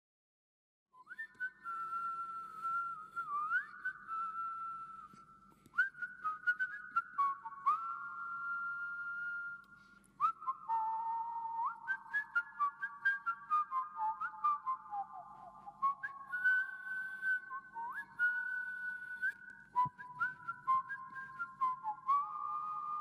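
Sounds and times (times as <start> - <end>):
person whistling a tune: 1.0 - 23.0.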